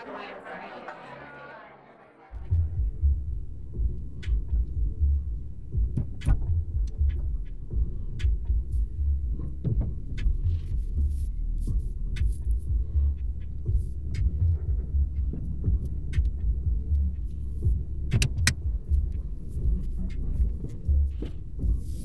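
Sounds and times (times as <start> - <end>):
car engine and road rumble: 2.5 - 22.0.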